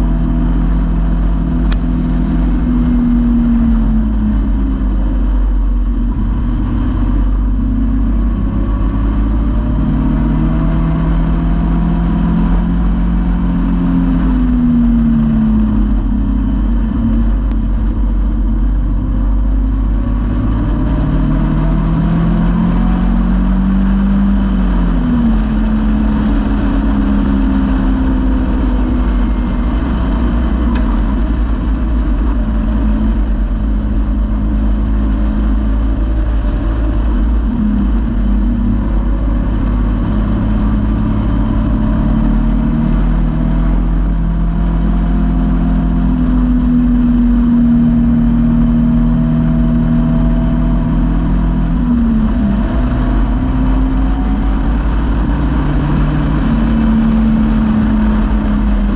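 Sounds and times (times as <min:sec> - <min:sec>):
car engine running: 0:00.0 - 0:58.9
wind buffeting rumble: 0:00.0 - 0:58.9.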